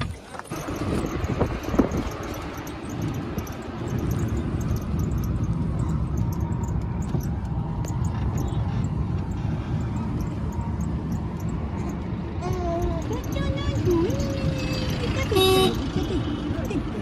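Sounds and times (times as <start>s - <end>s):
auto-rickshaw engine running: 0.0s - 17.0s
road noise: 0.0s - 17.0s.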